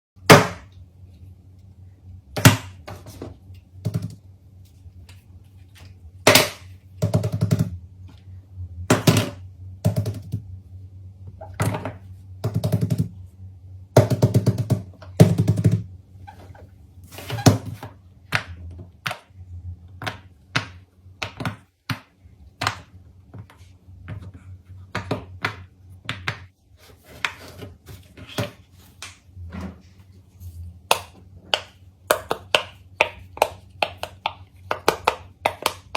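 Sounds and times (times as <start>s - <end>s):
steady low hum: 0.2s - 35.9s.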